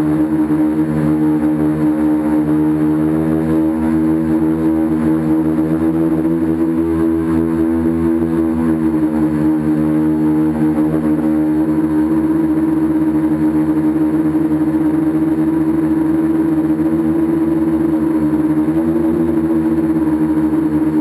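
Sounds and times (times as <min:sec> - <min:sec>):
drone propellers droning: 0:00.0 - 0:21.0.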